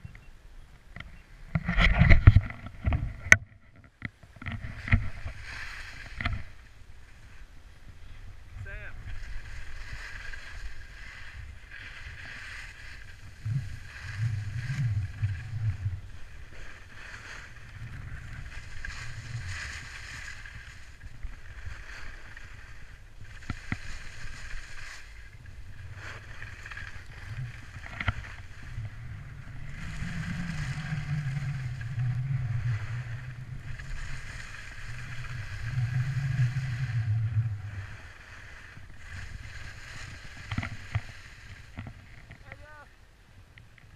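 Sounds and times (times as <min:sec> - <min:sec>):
wind on microphone: 0:04.4 - 0:43.9
skis sliding on snow: 0:04.7 - 0:42.8.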